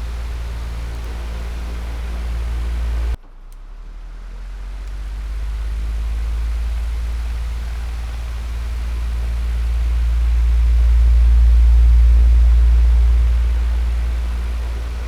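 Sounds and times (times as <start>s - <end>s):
electric fan whooshing: 0.0s - 3.2s, 4.5s - 15.0s.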